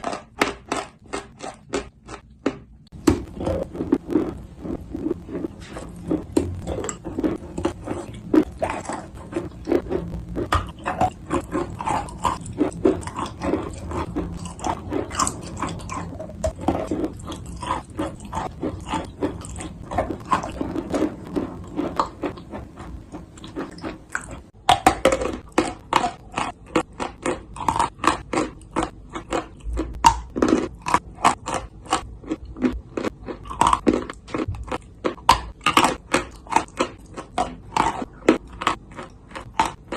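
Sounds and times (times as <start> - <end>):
person chewing crunchy clay: 0.0 - 39.9.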